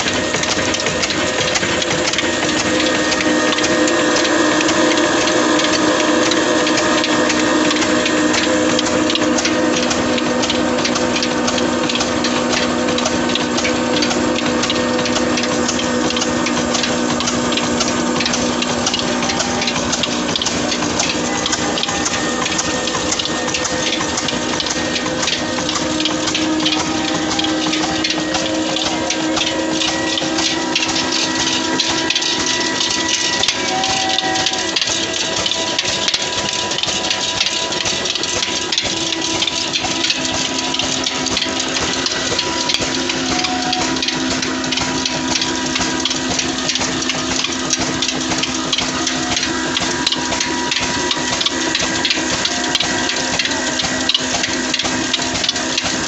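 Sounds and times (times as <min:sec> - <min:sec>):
diesel engine running: 0:00.0 - 0:56.0
flour grinder driven by belts: 0:00.0 - 0:56.0.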